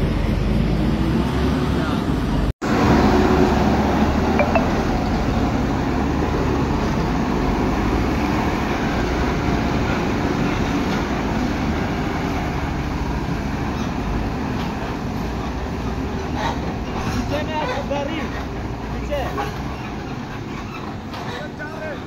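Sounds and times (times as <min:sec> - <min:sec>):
heavy diesel vehicles on dirt road: 0:00.0 - 0:22.0
truck engine running close: 0:00.0 - 0:22.0.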